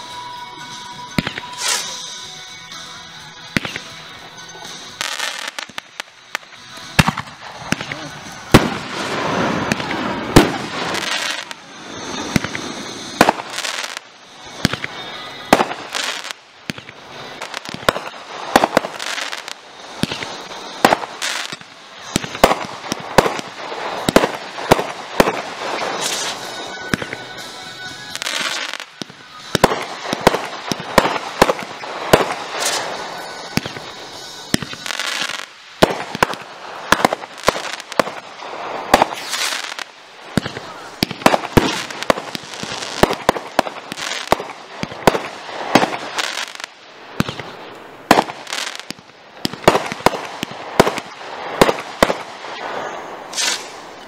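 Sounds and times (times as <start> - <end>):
fireworks bangs: 0.0 - 2.2, 3.5 - 54.0
fireworks crackling and hissing: 0.0 - 54.0.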